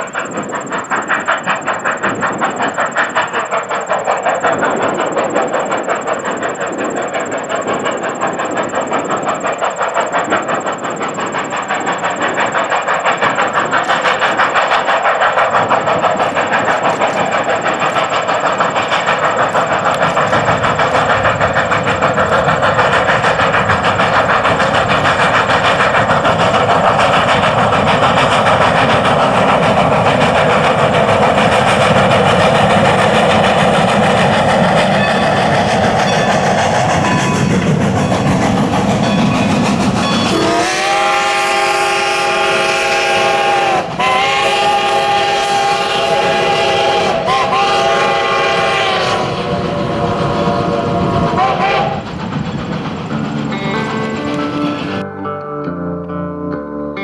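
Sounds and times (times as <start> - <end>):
steam locomotive exhaust beats: 0.0 - 57.0.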